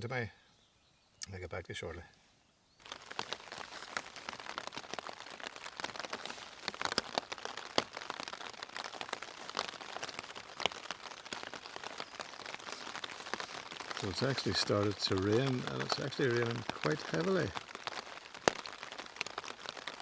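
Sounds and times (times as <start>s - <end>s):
heavy rain on tent fabric: 2.7s - 20.0s.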